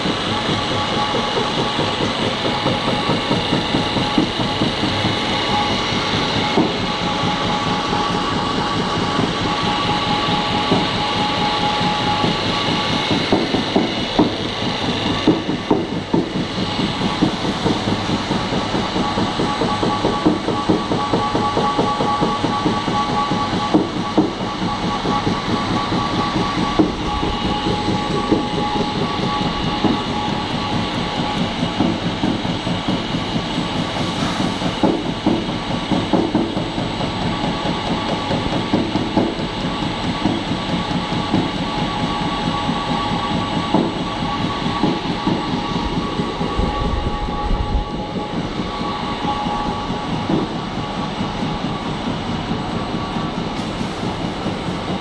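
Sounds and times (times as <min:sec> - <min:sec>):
press machine knocking and clatter: 0:00.0 - 0:33.7, 0:34.7 - 0:46.1
machine whine: 0:00.0 - 0:55.0.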